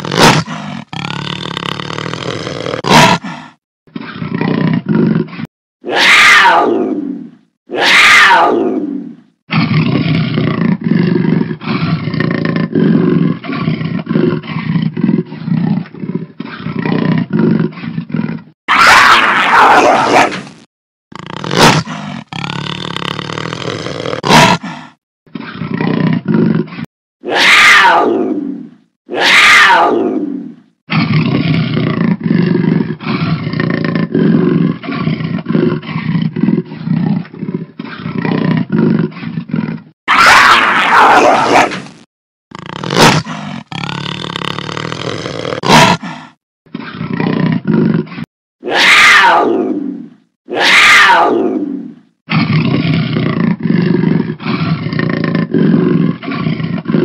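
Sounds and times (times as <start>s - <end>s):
big cat growling: 0.0s - 57.0s
big cat roars: 0.0s - 57.0s
big cat snarl: 0.0s - 57.0s.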